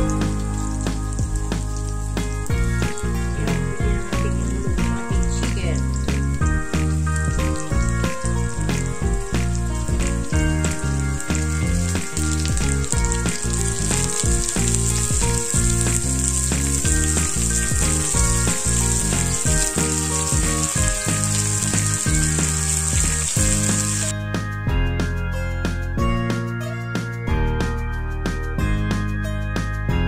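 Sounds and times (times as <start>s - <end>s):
food sizzling in a wok: 0.0s - 24.1s
background music: 0.0s - 30.0s.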